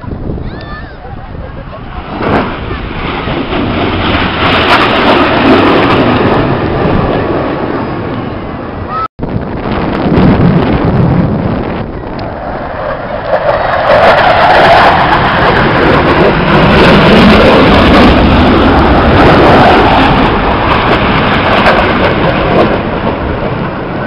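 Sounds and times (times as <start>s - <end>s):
jet engines roaring on low pass: 0.0s - 24.0s.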